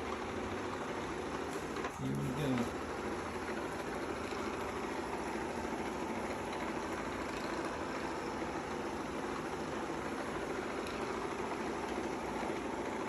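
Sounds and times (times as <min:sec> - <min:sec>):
robot vacuum cleaner whirring: 0:00.0 - 0:13.0.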